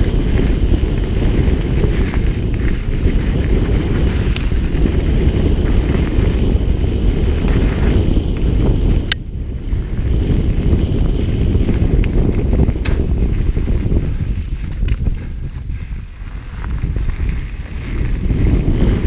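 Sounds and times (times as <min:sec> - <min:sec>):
bike clicks and rattles: 0:00.0 - 0:19.0
tyres rumbling on gravel: 0:00.0 - 0:19.0
wind buffeting microphone: 0:00.0 - 0:19.0.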